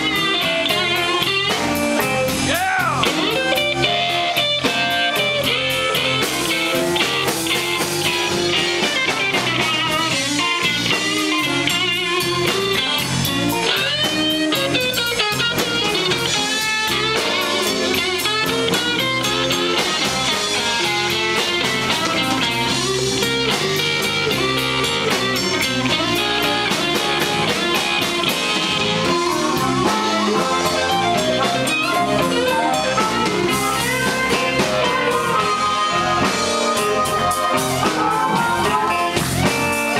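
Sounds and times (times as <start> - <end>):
drum kit: 0.0 - 39.9
electric bass: 0.0 - 39.9
electric guitar lead lines: 0.0 - 39.9.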